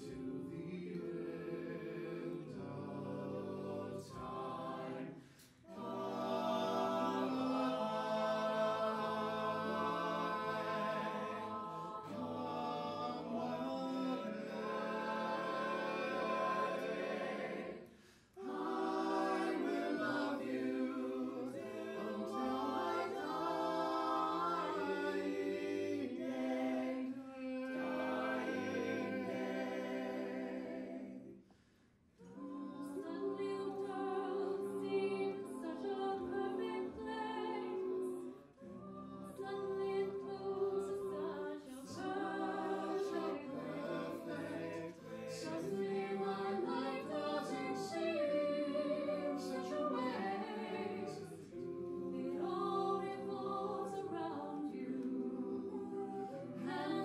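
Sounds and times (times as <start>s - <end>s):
a cappella choir singing harmony: 0.0s - 57.0s.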